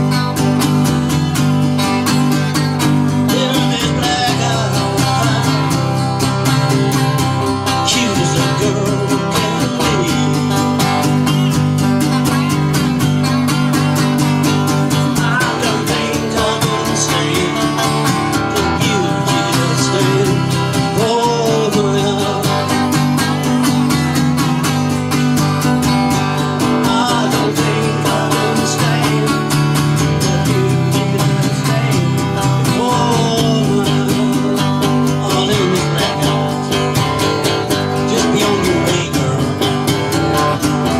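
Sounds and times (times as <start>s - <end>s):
strummed acoustic guitar music: 0.0s - 40.9s.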